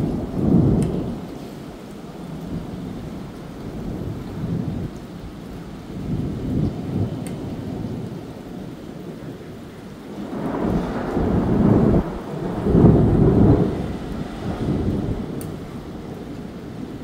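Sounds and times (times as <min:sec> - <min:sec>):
rolling thunder: 0:00.0 - 0:01.7, 0:02.4 - 0:17.0
steady rain: 0:00.0 - 0:17.0.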